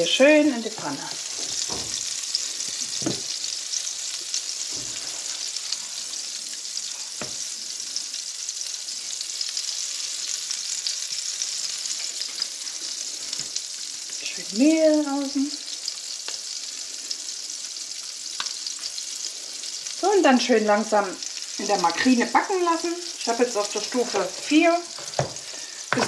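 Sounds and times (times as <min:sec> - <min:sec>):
patties sizzling in a pan: 0:00.0 - 0:26.0.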